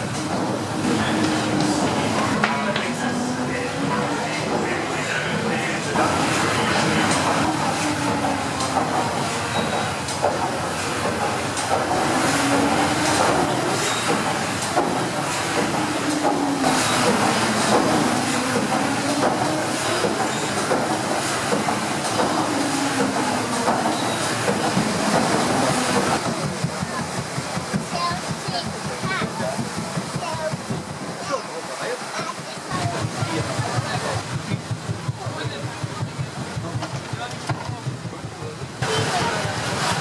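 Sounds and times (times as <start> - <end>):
steam hissing: 0.0 - 37.3
steam engine clattering: 0.0 - 40.0.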